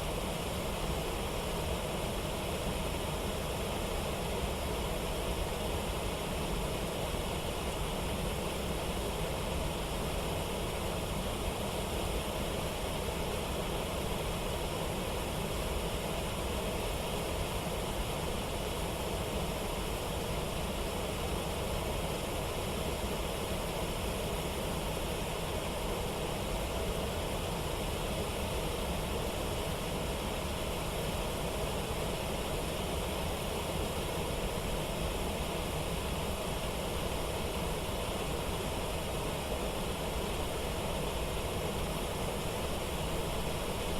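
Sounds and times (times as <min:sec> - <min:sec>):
waterfall and river rapids: 0:00.0 - 0:43.9.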